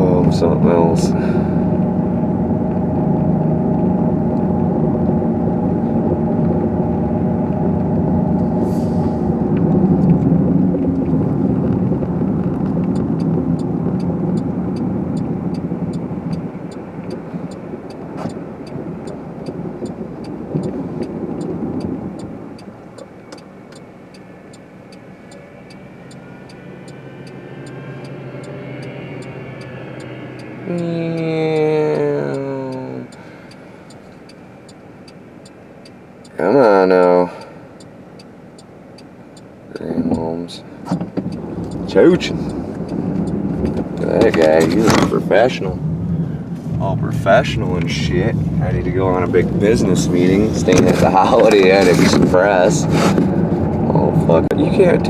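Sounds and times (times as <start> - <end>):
car engine and tyre noise: 0.0 - 55.0
steady fast ticking: 9.5 - 55.0.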